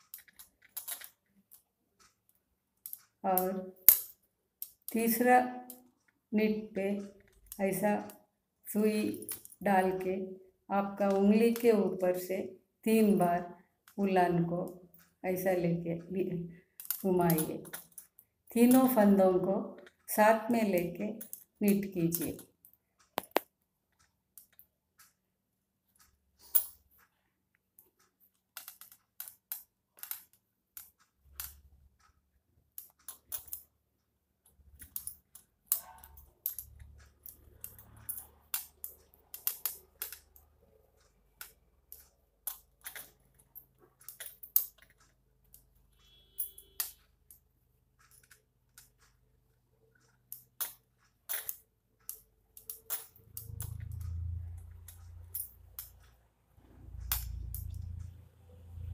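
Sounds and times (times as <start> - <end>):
metal knitting needles clicking: 0.0 - 58.9.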